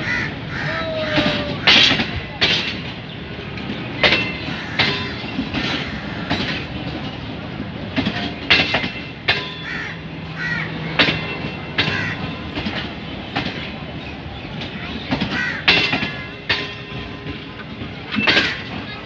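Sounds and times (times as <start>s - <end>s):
train rumble: 0.0s - 19.0s
train wheels clacking: 0.0s - 19.0s.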